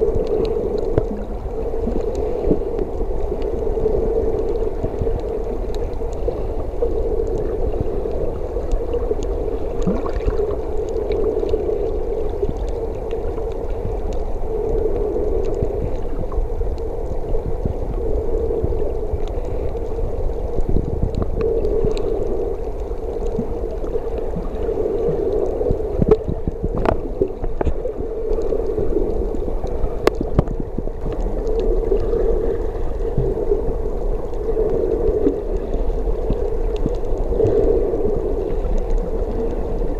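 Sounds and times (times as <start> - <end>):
faint clicks: 0.0 - 39.9
muffled underwater rumble: 0.0 - 39.9.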